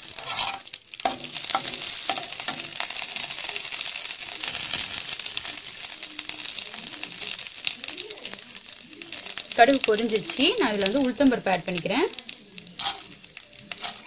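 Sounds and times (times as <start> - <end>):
seeds sizzling and popping in oil: 0.0 - 14.0.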